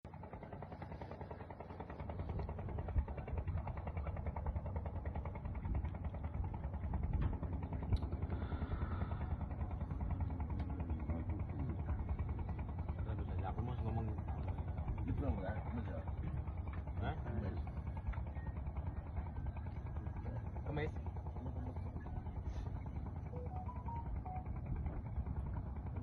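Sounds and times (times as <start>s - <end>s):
small engine running: 0.1s - 26.0s.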